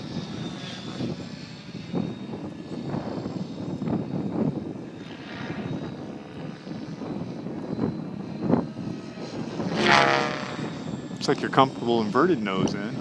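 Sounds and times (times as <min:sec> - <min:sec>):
faint high whine: 0:00.0 - 0:13.0
helicopter rotor blades chopping: 0:00.0 - 0:13.0.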